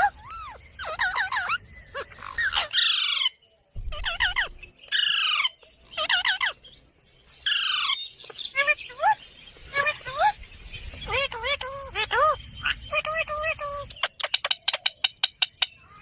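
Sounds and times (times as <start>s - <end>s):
parrots squawking and chirping: 0.0s - 6.7s, 7.4s - 16.0s.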